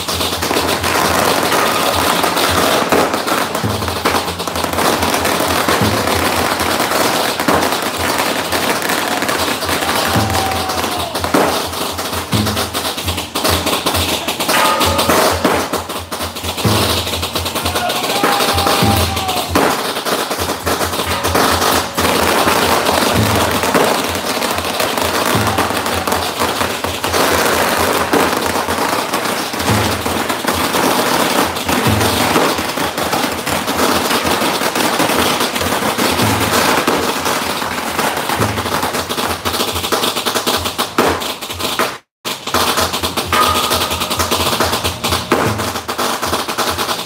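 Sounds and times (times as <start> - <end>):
firecrackers crackling: 0.0 - 47.0
music: 0.0 - 47.0.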